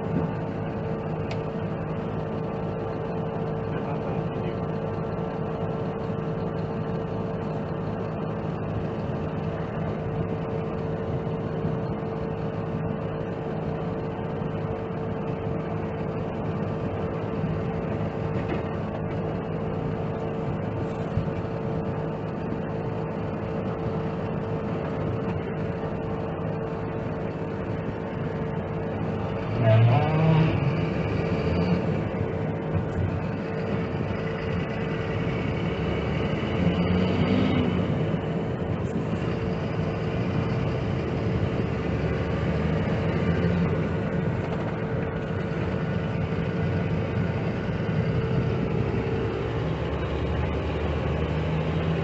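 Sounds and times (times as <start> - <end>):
constant whine: 0.0 - 52.0
truck engine running: 0.0 - 52.0.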